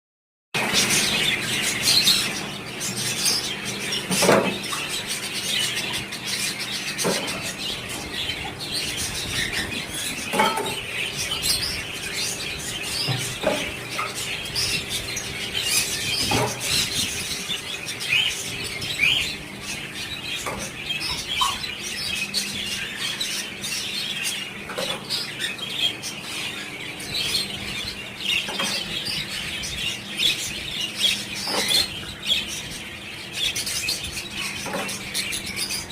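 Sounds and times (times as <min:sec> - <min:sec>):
budgerigars chattering and chirping: 0:00.6 - 0:35.9.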